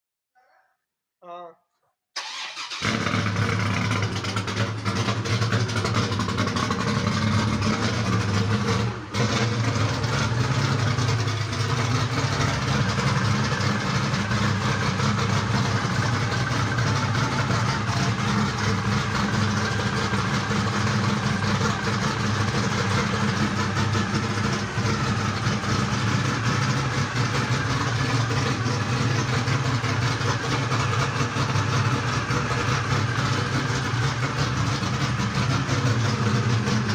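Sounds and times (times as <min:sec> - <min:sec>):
car engine running steadily: 0:02.8 - 0:36.9.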